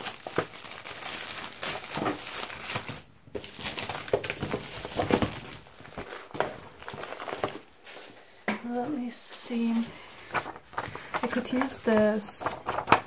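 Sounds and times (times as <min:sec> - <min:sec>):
paper rustling: 0:00.0 - 0:08.2, 0:09.6 - 0:13.0
plastic sheet protector crinkling: 0:00.0 - 0:08.2, 0:09.4 - 0:13.0.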